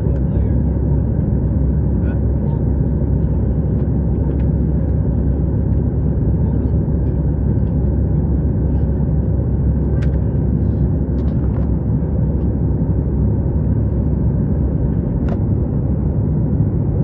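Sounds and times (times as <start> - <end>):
airplane engines rumbling: 0.0 - 17.0.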